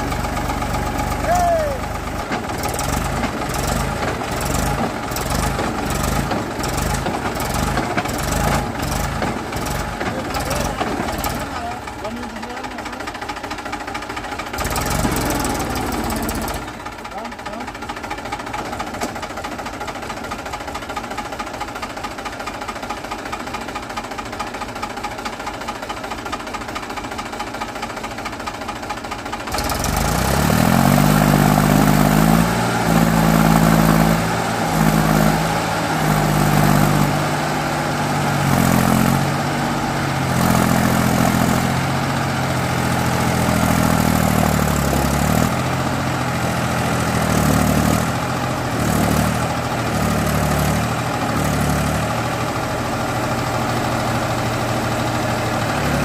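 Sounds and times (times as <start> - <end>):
tractor diesel engine revving: 0.0 - 21.7, 28.6 - 56.0.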